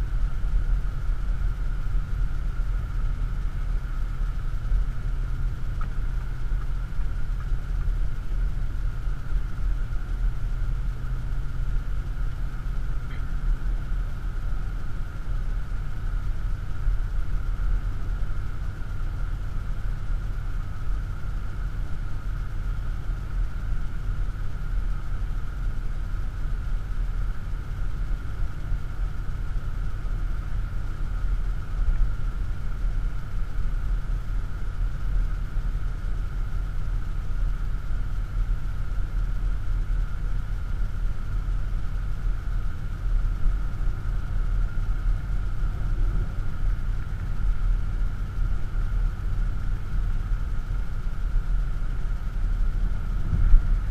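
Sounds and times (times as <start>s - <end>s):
car cabin road rumble: 0.0s - 53.9s
faint steady hum: 0.0s - 53.9s.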